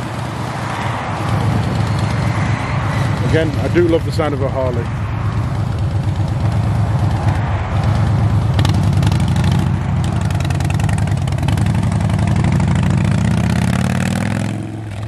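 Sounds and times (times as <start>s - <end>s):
motorcycle engine riding past: 0.0s - 15.0s.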